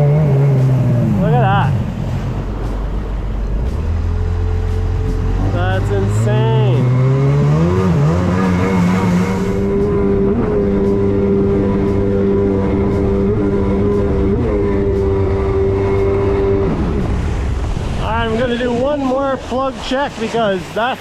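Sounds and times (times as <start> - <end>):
jet ski engine at high revs: 0.0 - 2.3, 4.0 - 21.0.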